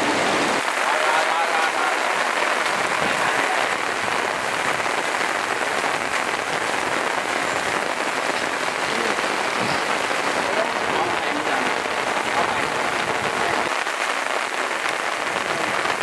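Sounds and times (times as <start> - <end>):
rain on umbrellas and plastic: 0.0 - 16.0.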